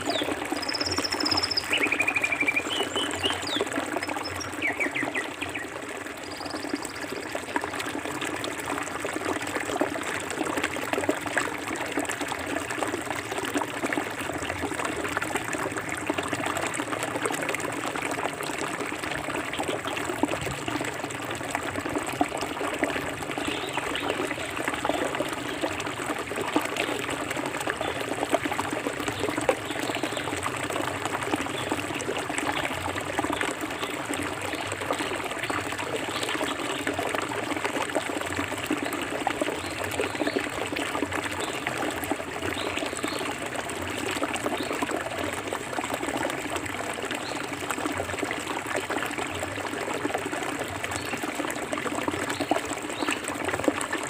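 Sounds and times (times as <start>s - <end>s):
river water flowing over rocks: 0.0s - 54.0s.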